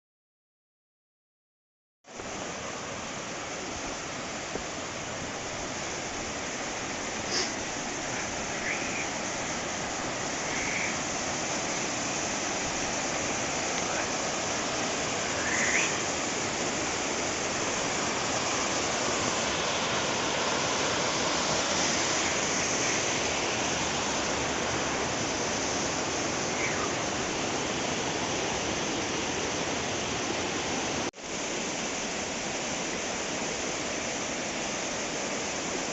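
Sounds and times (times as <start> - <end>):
stream rushing: 2.1 - 35.9.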